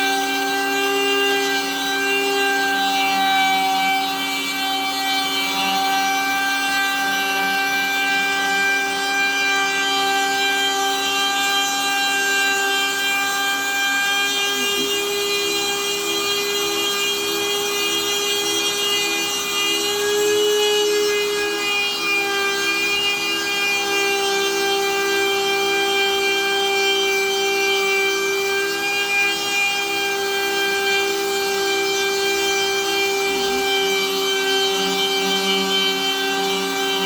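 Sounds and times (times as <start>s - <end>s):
router spindle whining: 0.0s - 37.0s.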